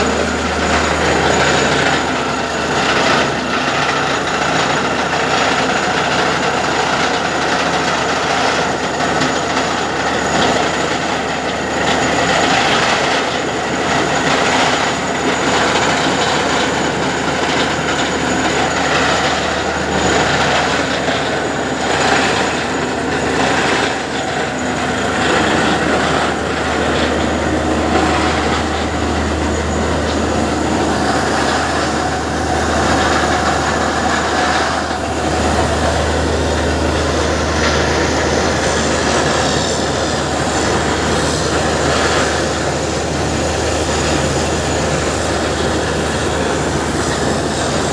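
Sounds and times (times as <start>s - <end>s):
drilling rig engine drone: 0.0s - 47.9s
rattling clatter of drilling: 0.0s - 47.9s.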